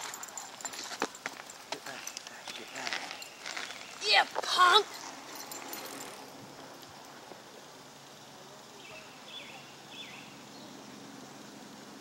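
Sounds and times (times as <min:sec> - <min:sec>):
quiet street ambience: 0:00.0 - 0:12.0.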